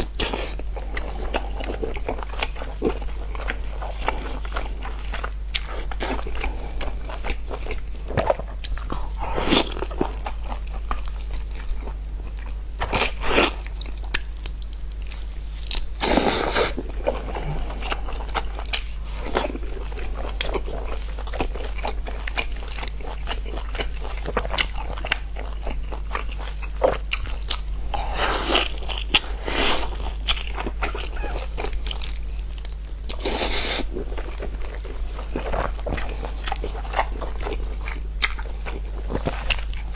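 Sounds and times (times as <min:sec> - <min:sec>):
person chewing crunchy food: 0:00.0 - 0:39.9
steady low hum: 0:00.0 - 0:39.9.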